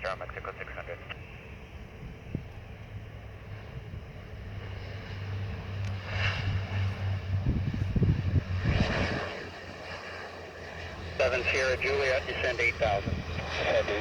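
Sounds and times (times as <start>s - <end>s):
airliner engine rumble: 0.0s - 14.0s.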